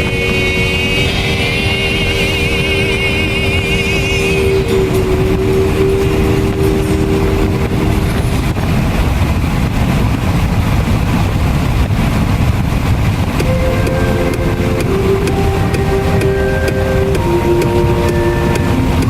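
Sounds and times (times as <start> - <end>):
steady hum: 0.0 - 19.0
wind buffeting microphone: 0.0 - 19.0.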